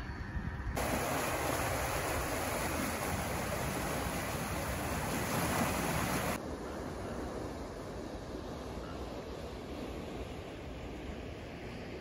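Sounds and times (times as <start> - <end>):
floodwater rushing: 0.8 - 11.3.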